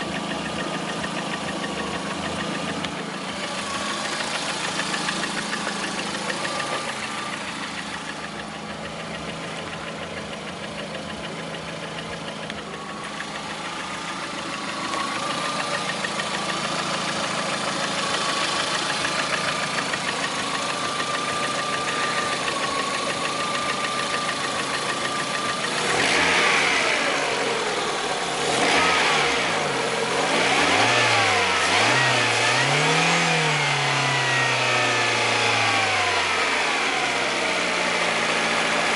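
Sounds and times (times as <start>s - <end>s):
car engine idling with high whine: 0.0s - 38.9s
car engine revving: 0.0s - 38.9s.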